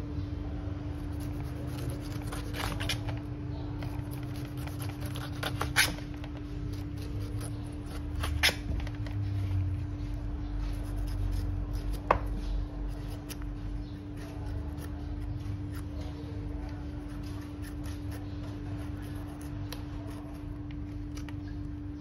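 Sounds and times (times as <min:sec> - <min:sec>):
steady hum: 0:00.0 - 0:22.0
knife slicing pineapple skin: 0:00.9 - 0:09.5, 0:10.5 - 0:21.6.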